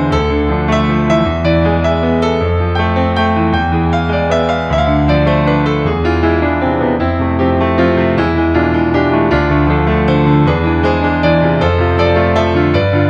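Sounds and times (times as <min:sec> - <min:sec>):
piano chords: 0:00.0 - 0:13.0
sustained bass: 0:00.0 - 0:13.0.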